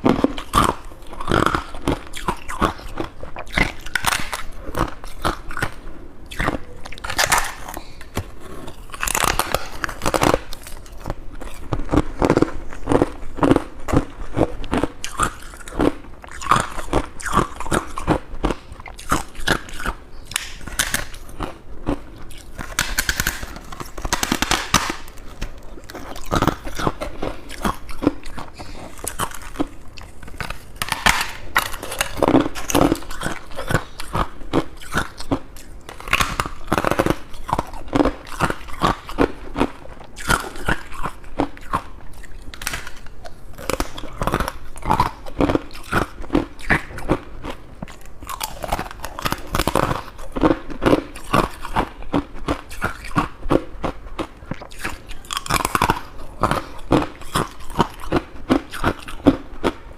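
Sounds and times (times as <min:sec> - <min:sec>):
frost crunching being chewed: 0:00.0 - 0:59.9.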